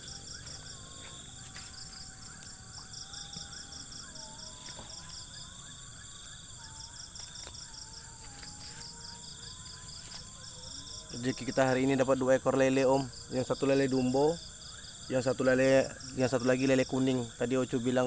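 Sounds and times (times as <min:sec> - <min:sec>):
crickets chirping: 0:00.0 - 0:18.0
high-pitched insect hiss: 0:00.0 - 0:18.0.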